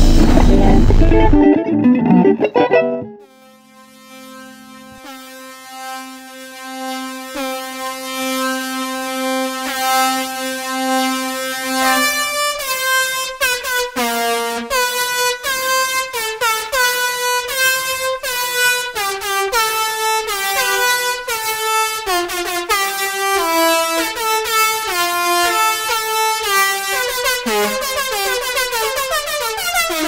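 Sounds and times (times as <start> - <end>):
electronic synth melody: 0.0 - 13.3, 17.5 - 30.0.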